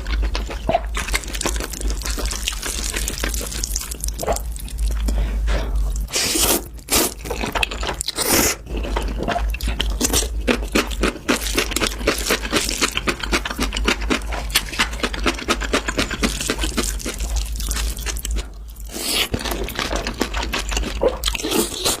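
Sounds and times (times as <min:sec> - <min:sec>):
crunchy chewing of food: 0:00.0 - 0:22.0.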